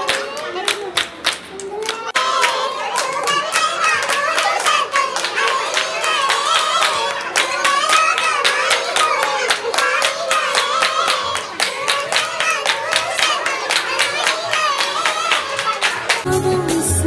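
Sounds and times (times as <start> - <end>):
women clapping in rhythm: 0.0 - 16.3.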